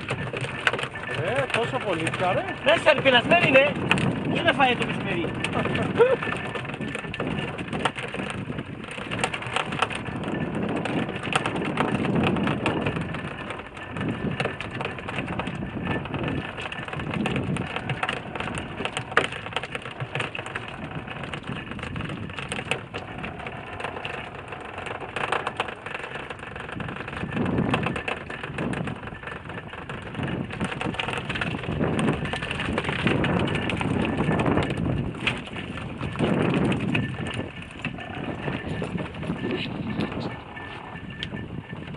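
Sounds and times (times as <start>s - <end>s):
small knocks and rattles: 0.0s - 41.9s
wind buffeting microphone: 0.0s - 41.9s.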